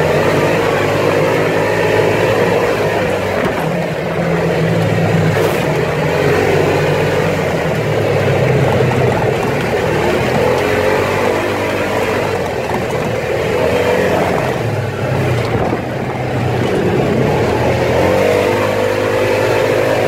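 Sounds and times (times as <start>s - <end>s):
engine running under throttle: 0.0s - 20.0s.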